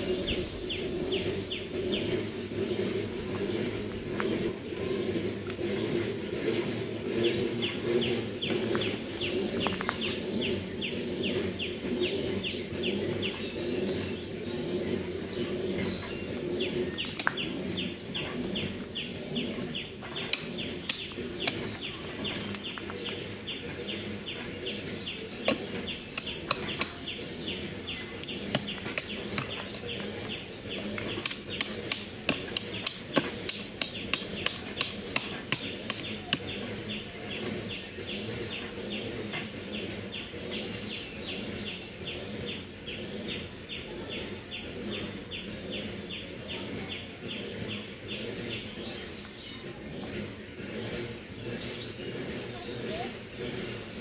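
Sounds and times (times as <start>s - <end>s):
rapid chirping call: 0.0s - 4.6s, 6.0s - 49.4s.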